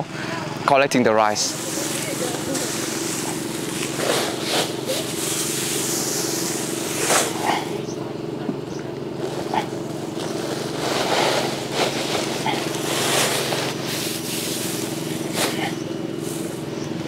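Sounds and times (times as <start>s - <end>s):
small engine droning: 0.0s - 17.0s
rustle of dry rice stalks: 1.3s - 7.9s, 9.2s - 17.0s.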